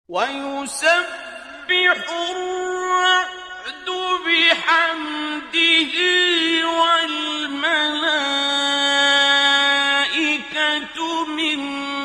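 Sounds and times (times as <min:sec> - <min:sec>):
person chanting a recitation: 0:00.1 - 0:12.0.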